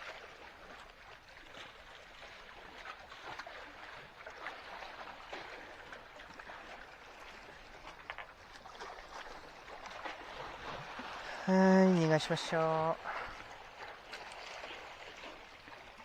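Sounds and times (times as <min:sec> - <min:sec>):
sea water lapping: 0:00.0 - 0:16.0
small water splashes: 0:00.0 - 0:16.0.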